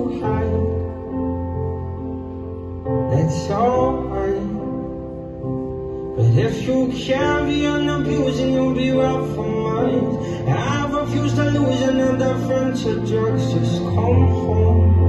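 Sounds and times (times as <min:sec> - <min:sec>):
slow pop ballad instrumental: 0:00.0 - 0:15.0.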